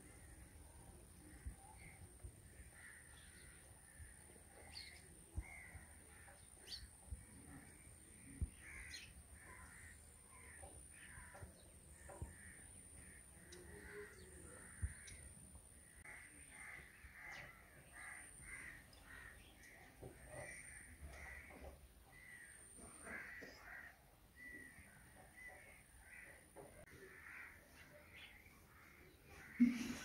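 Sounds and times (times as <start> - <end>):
birds calling: 0.0 - 29.8.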